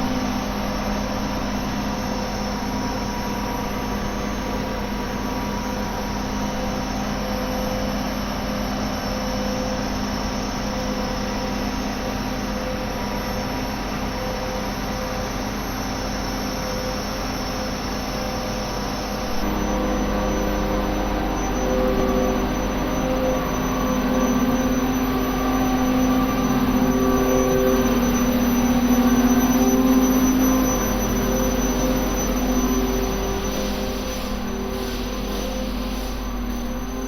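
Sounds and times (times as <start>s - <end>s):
concrete mixer engine droning: 0.0s - 37.0s.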